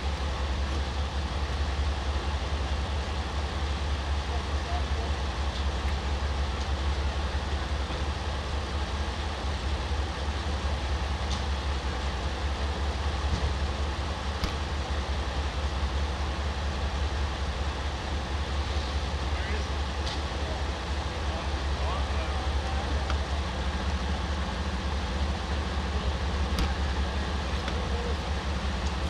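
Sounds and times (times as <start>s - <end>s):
vehicle engines idling: 0.0s - 29.0s.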